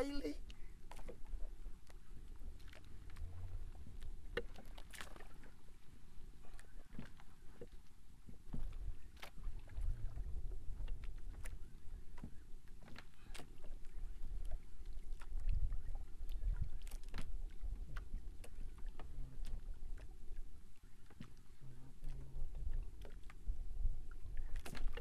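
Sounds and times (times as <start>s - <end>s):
wind rumble on microphone: 1.2s - 7.6s, 8.2s - 25.0s.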